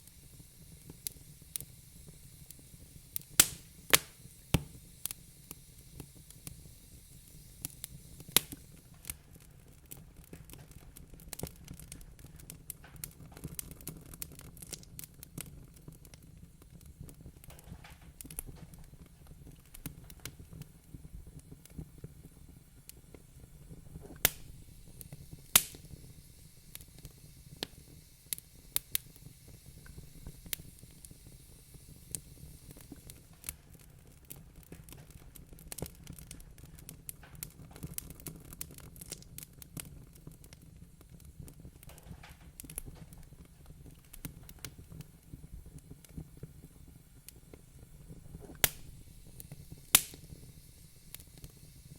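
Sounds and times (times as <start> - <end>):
low rumble of burning fire: 0.0 - 51.9
wood fire crackling and popping: 0.0 - 51.9.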